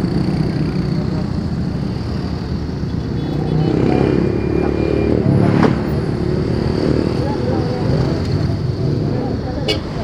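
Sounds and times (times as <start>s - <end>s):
car and motorcycle engines: 0.0s - 10.0s.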